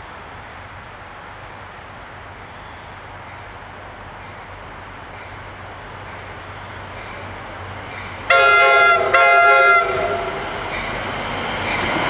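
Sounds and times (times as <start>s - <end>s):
distant diesel train engine hum: 0.0s - 12.0s.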